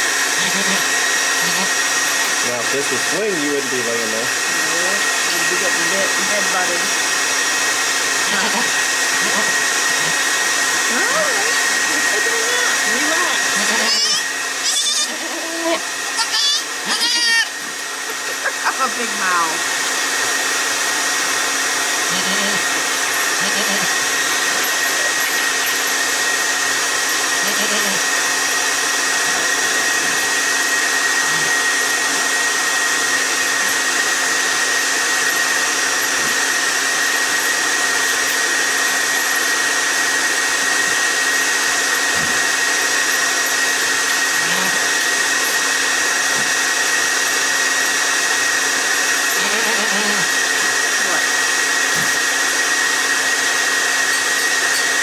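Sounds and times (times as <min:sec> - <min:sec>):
blower whooshing with whine: 0:00.0 - 0:55.0.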